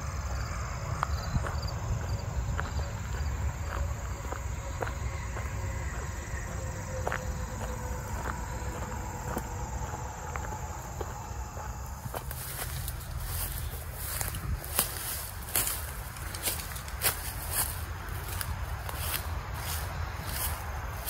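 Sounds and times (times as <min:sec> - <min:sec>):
faint insect drone: 0:00.0 - 0:21.0
footsteps on gravel: 0:00.3 - 0:21.0.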